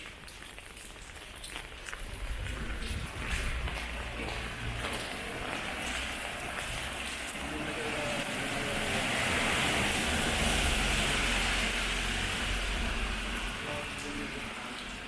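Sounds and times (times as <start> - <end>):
tyre hiss on wet road: 1.1 - 15.0
passing vehicle rumble: 2.0 - 15.0.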